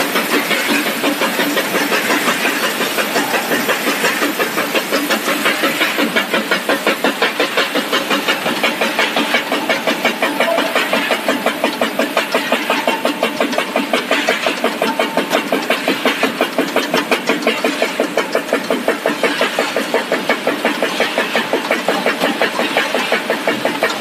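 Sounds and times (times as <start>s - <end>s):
machinery clattering: 0.0s - 24.0s.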